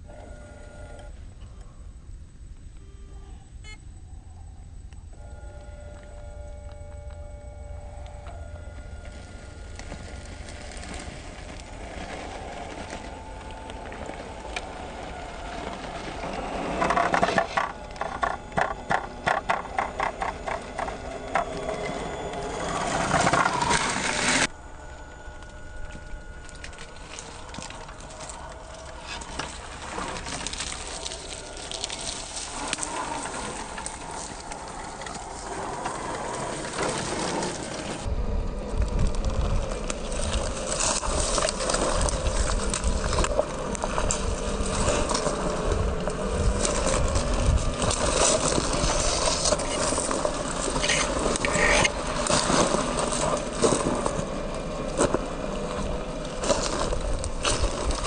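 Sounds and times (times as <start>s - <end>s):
electric motor whining: 0.0s - 1.8s, 4.8s - 58.0s
low rumble: 1.1s - 58.0s
tyres crunching and clicking: 4.8s - 58.0s.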